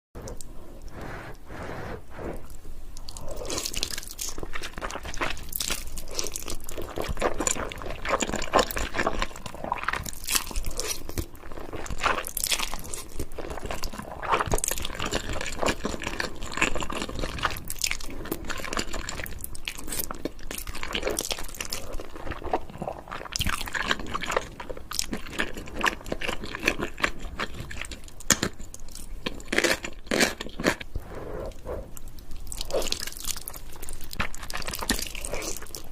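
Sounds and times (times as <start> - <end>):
chewing noodles: 0.2 - 35.9.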